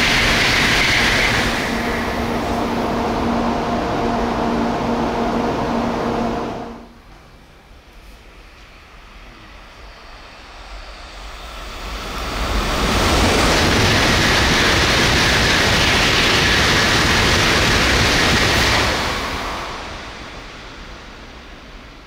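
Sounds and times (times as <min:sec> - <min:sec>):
high-speed train passing: 0:00.0 - 0:22.0.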